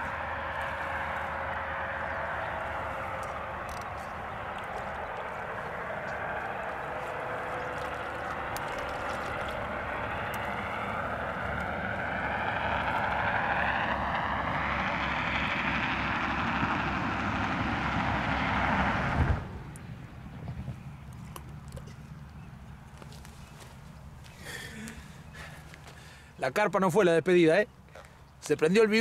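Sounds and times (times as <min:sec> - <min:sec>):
propeller plane droning overhead: 0:00.0 - 0:26.4.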